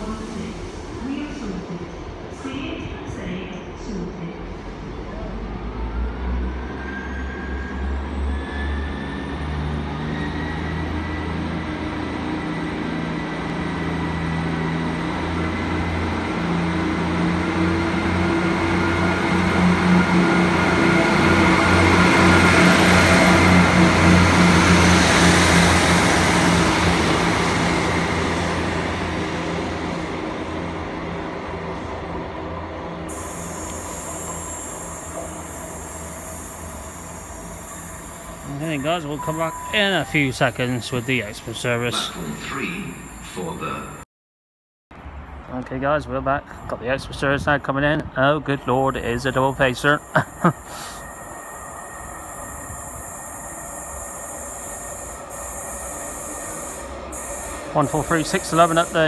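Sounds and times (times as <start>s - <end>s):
diesel train passing: 0.0s - 44.0s, 44.9s - 59.0s.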